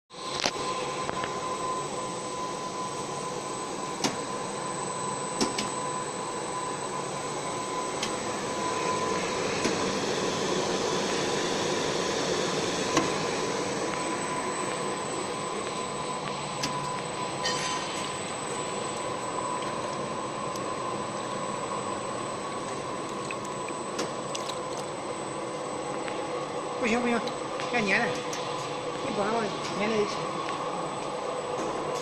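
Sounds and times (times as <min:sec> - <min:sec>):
faint high whine: 0:00.1 - 0:31.5
machine hum with whine: 0:00.1 - 0:32.0.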